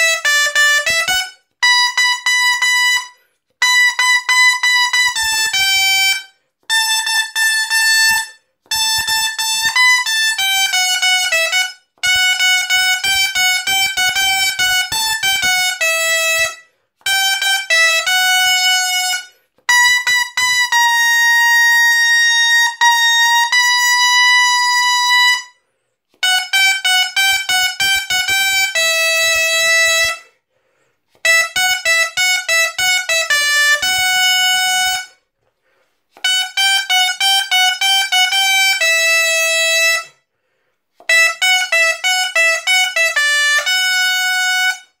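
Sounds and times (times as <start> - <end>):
shawm playing solo melody: 0.0 - 25.5, 26.2 - 30.2, 31.2 - 35.1, 36.2 - 40.1, 41.0 - 44.8.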